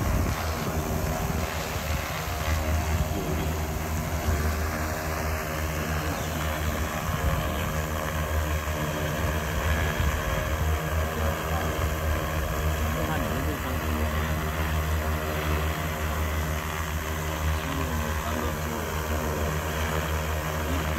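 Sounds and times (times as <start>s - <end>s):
drone propellers buzzing: 0.0s - 20.9s.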